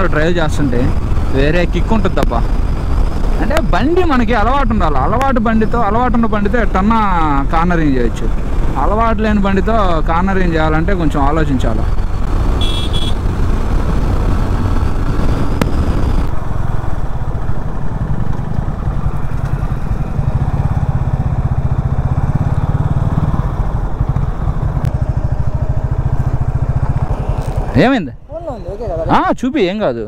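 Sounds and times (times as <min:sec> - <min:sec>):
motorcycle engine running: 0:00.0 - 0:29.2.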